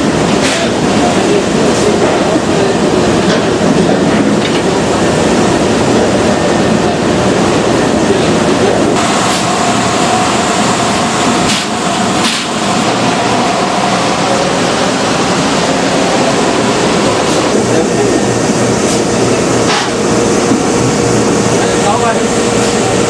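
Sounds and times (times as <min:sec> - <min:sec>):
industrial laundry machinery running: 0:00.0 - 0:23.0.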